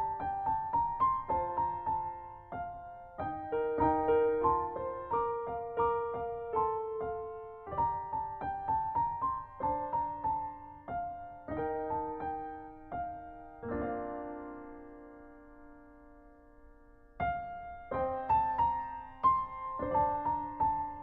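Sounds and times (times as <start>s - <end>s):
gentle solo piano: 0.0s - 21.0s.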